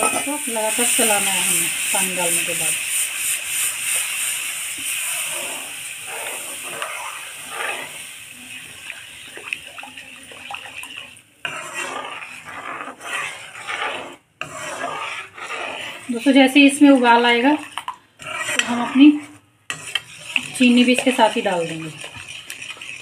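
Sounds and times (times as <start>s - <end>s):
flour and ghee sizzling: 0.0s - 23.0s
metal spoon scraping pan: 0.0s - 23.0s.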